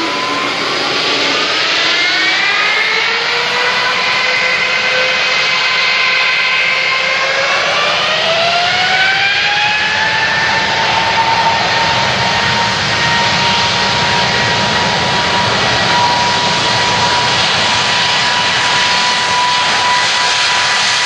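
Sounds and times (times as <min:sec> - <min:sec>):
jet engines spooling up: 0:00.0 - 0:21.0.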